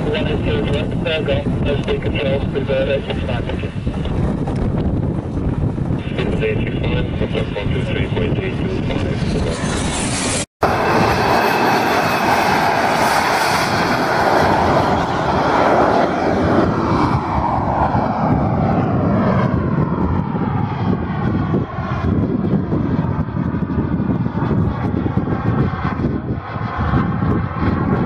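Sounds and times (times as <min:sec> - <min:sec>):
model jet engine rushing: 0:00.0 - 0:28.0.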